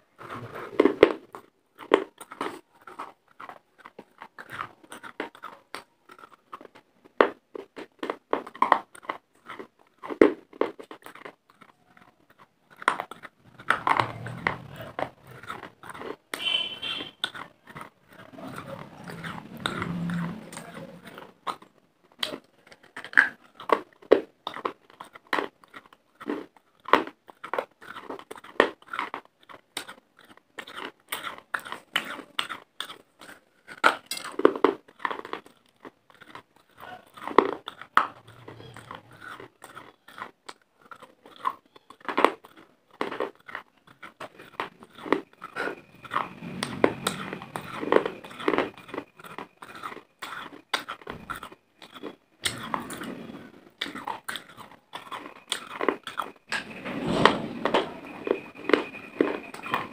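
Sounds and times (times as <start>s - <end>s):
crunching and chewing dry clay: 0.0s - 59.9s.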